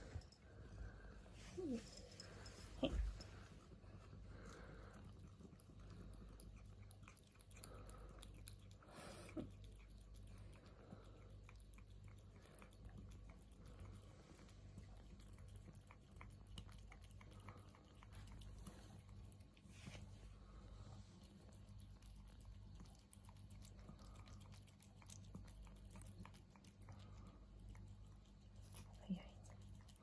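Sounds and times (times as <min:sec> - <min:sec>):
kitten licking: 0:00.0 - 0:30.0.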